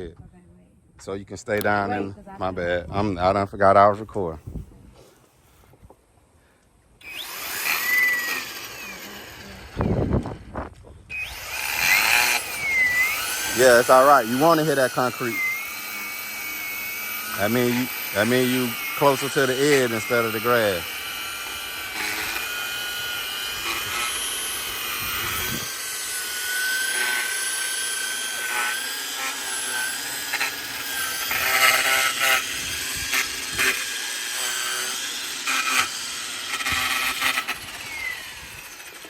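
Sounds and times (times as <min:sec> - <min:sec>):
string trimmer whining: 0:07.0 - 0:39.0.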